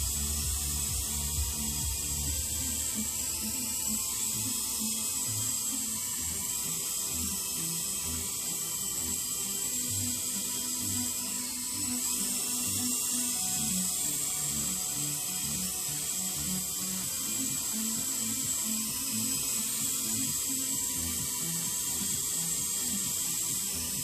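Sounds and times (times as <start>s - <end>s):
background music with bass line: 0.0s - 24.0s
high-pitched electric motor whine: 0.0s - 24.0s.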